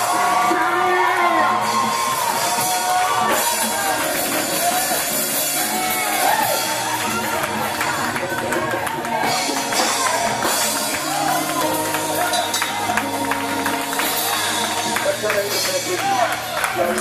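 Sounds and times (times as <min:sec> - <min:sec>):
church praise music: 0:00.0 - 0:17.0
congregation shouting and singing: 0:00.0 - 0:17.0.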